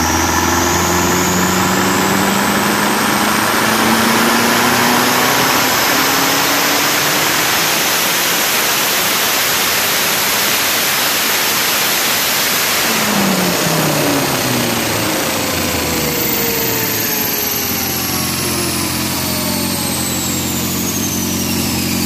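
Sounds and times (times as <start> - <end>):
car engine winding down to idle: 0.0 - 22.0
cooling fan rushing: 0.0 - 22.0
high whine falling in pitch: 0.0 - 22.0.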